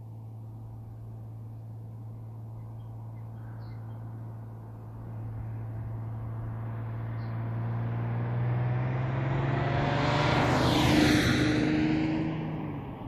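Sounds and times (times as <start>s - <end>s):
diesel car engine drone: 0.0s - 13.0s.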